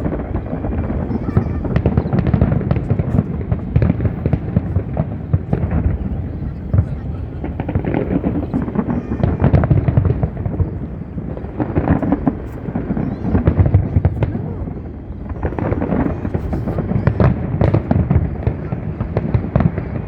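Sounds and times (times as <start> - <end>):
fireworks crackling bangs: 0.0 - 20.0
low fireworks booming: 0.0 - 20.0.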